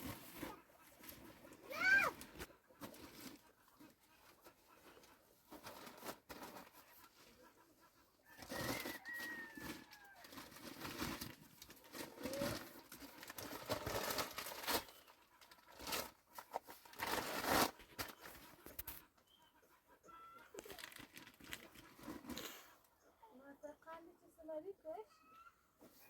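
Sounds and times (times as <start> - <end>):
rustling and handling noises: 0.0 - 23.1.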